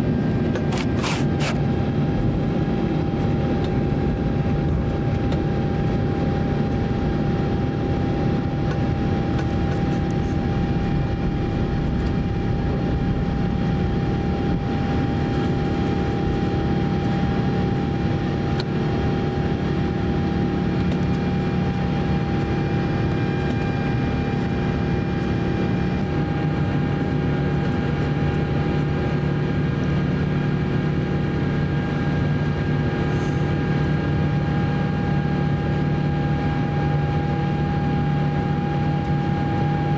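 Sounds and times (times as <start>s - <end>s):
aircraft cabin engine noise: 0.0s - 39.9s.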